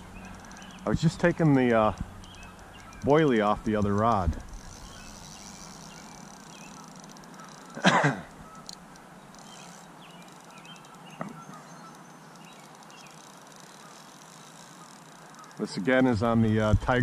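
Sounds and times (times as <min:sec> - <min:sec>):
faint chirps: 0:00.0 - 0:15.9
outdoor background noise: 0:00.0 - 0:17.0.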